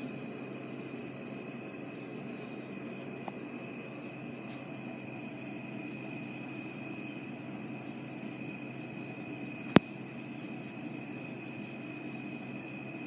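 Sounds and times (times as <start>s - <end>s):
crickets trilling: 0.0s - 13.0s
pulsed insect call: 0.0s - 13.0s.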